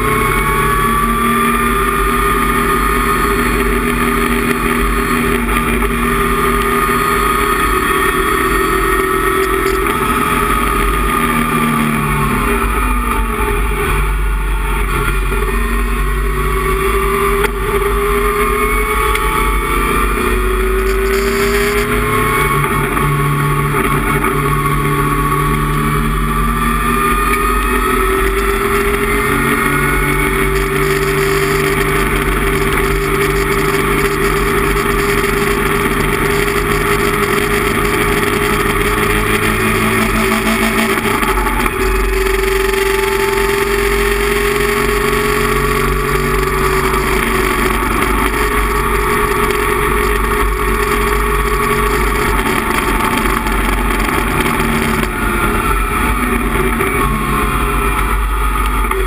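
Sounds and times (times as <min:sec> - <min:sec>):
race car engine under full throttle: 0:00.0 - 0:59.0.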